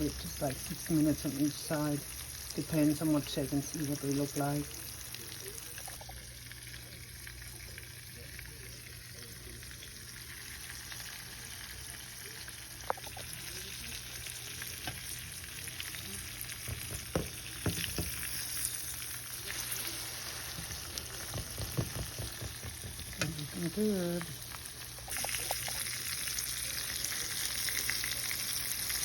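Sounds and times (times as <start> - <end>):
pork chops sizzling in oil: 0.0 - 29.0.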